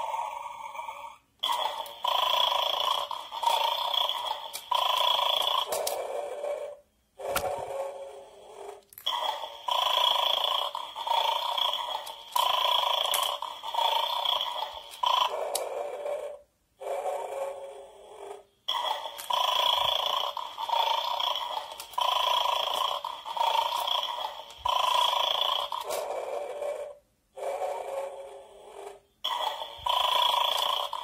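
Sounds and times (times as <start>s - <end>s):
electronic toy snoring sound: 0.0s - 31.0s.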